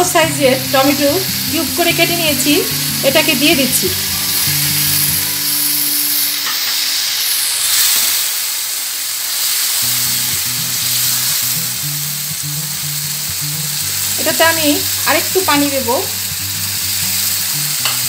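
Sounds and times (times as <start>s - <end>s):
frying hiss in a pan: 0.0s - 18.0s.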